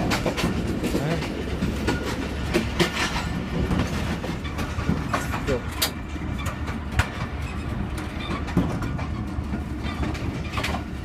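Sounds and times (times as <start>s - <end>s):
carriage knocks and clatters: 0.0s - 11.0s
train rumbling on rails: 0.0s - 11.0s.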